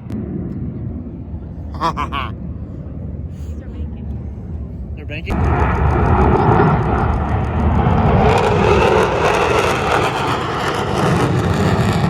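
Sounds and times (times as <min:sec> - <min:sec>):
aircraft engine flying past: 0:00.0 - 0:12.0.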